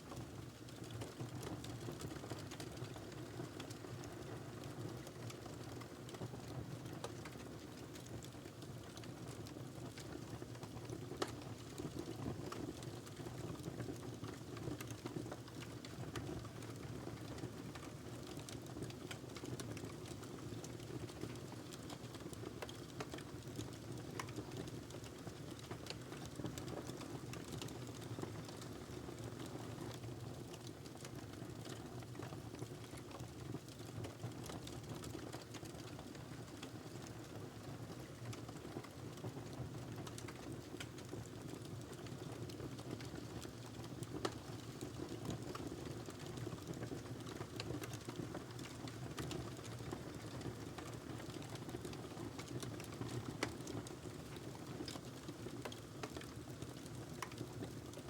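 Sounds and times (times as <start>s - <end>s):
wood fire crackling and hissing: 0.1s - 58.0s.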